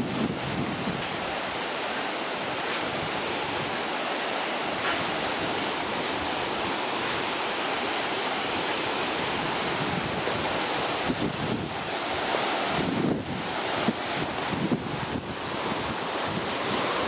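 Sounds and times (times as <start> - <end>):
mountain river rushing: 0.0 - 17.0.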